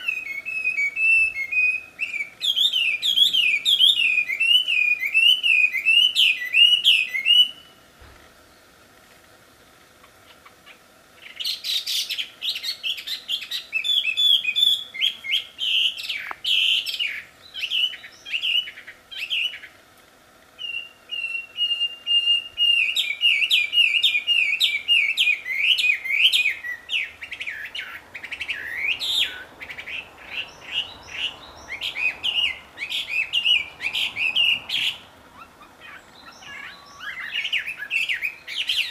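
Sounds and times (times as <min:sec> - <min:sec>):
bird singing whistled song: 0:00.0 - 0:07.8, 0:11.2 - 0:19.7, 0:20.6 - 0:38.9.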